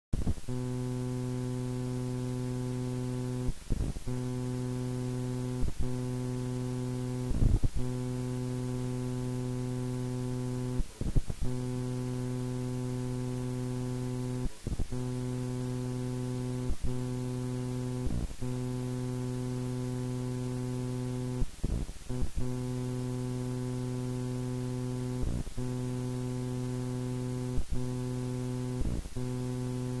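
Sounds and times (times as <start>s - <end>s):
electrical interference buzz: 0.2s - 30.0s.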